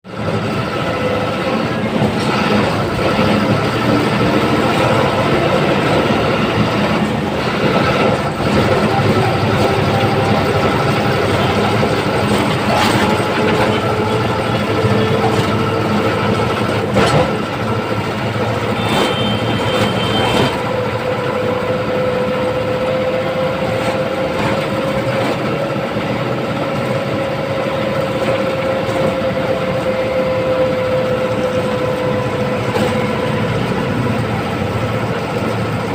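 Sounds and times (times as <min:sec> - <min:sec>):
diesel bus engine roaring: 0:00.0 - 0:35.9.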